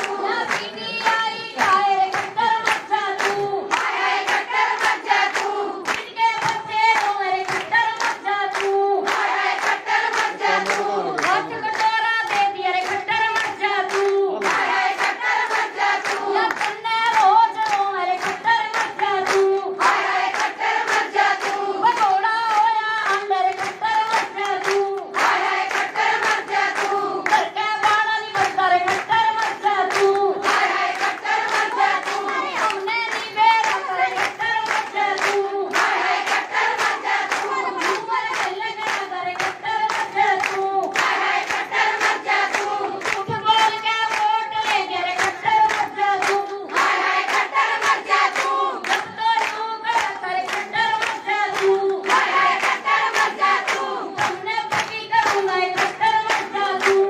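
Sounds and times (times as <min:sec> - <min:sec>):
crowd of women chanting: 0:00.0 - 0:57.0
hand clapping: 0:00.0 - 0:57.0
woman chanting over microphone: 0:00.0 - 0:57.0.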